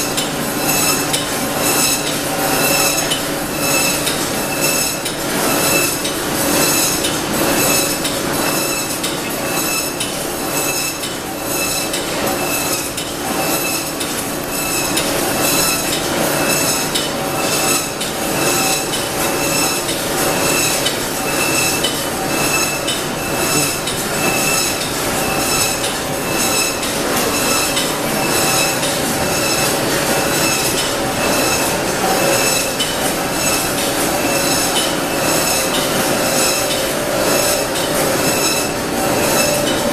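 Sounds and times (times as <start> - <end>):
conveyor metallic clattering: 0.0 - 39.9
high machine whine: 0.0 - 39.9.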